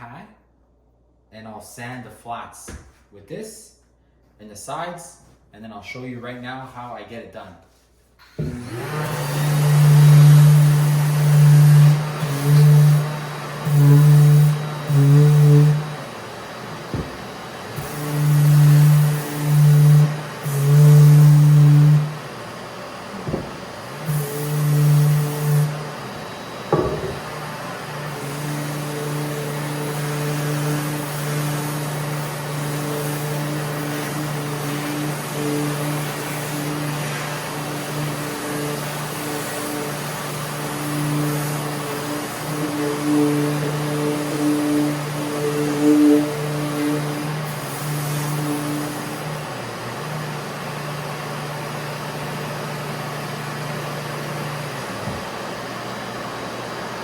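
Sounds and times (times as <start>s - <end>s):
vacuum hum and hiss: 8.2s - 57.0s
sander high hum: 8.3s - 57.0s.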